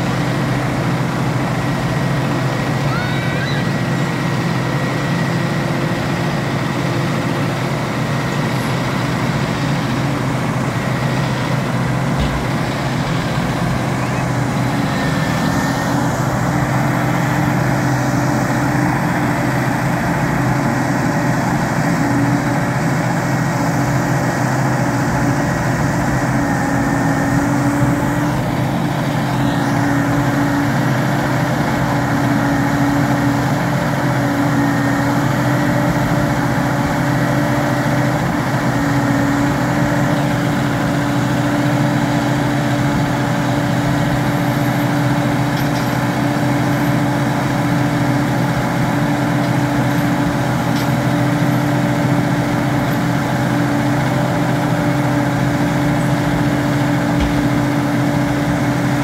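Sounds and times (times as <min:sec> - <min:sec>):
engine running with low hum: 0:00.0 - 0:59.0.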